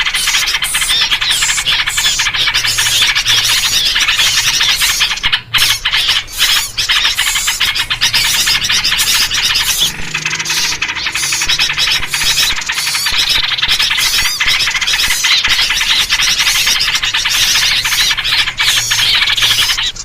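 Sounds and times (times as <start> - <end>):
bulbul calls: 0.0 - 20.0
many small birds chattering: 0.0 - 20.0.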